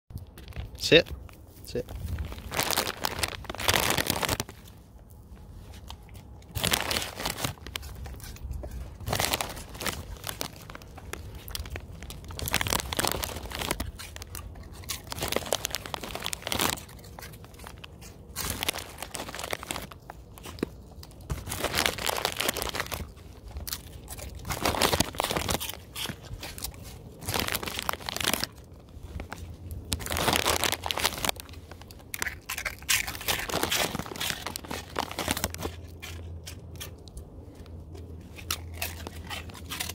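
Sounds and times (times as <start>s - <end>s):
crinkling and rustling: 0.1s - 39.9s
dogs crunching pork rinds: 0.1s - 39.9s.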